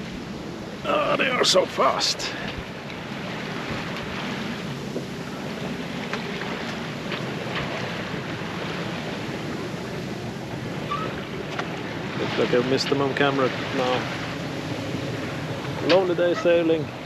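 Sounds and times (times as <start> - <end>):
faint water splashes: 0.0 - 17.0
water rushing along boat hull: 0.0 - 17.0
wind on microphone: 2.3 - 17.0.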